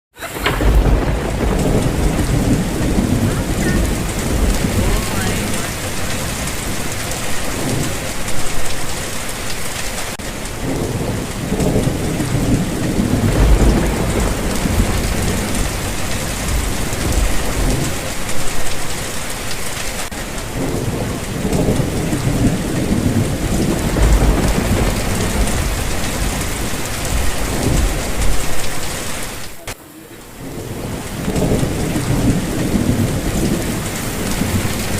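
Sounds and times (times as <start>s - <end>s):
heavy rain pouring: 0.1s - 34.9s
thunder rolling: 0.2s - 34.9s.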